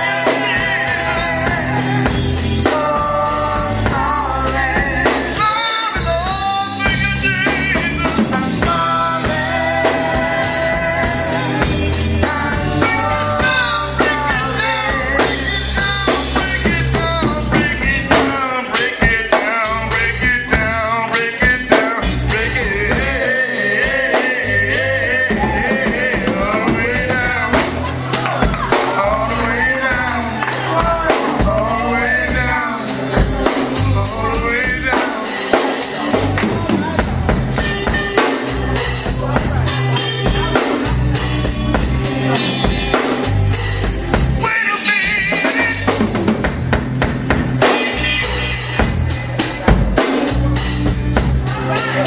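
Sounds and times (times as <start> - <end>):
band with drums playing: 0.0 - 52.0
male voices singing: 0.0 - 52.0.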